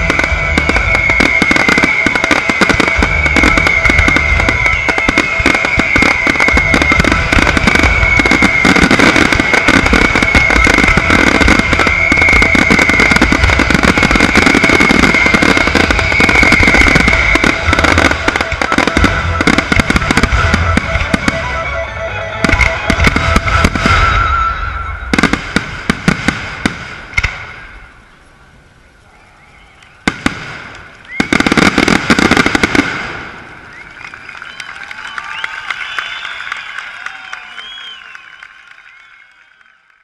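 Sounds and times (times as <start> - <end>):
fireworks bangs and crackling: 0.0 - 28.7, 29.8 - 39.5.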